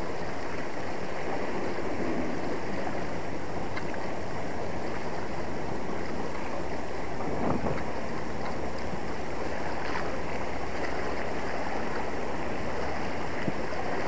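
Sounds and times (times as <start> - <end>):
sea water washing against rocks: 0.0 - 14.0.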